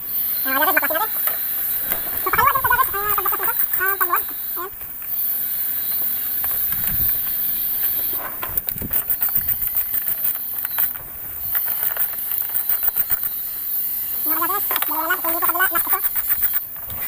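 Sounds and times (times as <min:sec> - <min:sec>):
high-pitched hiss: 0:00.0 - 0:17.0
ratchet wrench clicking: 0:00.1 - 0:16.8.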